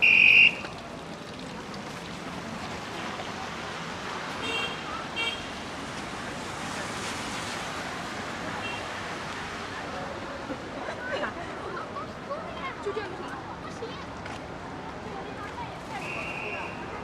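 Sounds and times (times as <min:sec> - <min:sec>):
street traffic hiss: 0:00.0 - 0:17.0.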